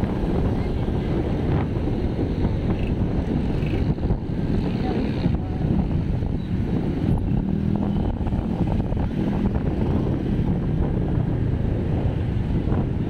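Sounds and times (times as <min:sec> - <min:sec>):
traffic engine noise: 0:00.0 - 0:13.0
wind buffeting microphone: 0:00.0 - 0:13.0.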